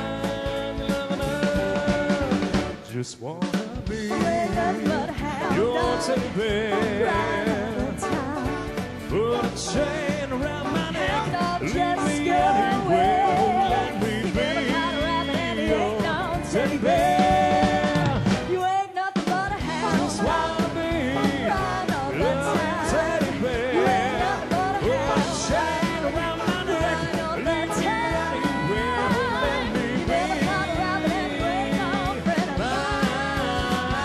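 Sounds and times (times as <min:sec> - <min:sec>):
people singing: 0:00.0 - 0:02.7, 0:03.5 - 0:18.6, 0:19.3 - 0:34.0
live rock band playing: 0:00.0 - 0:34.0.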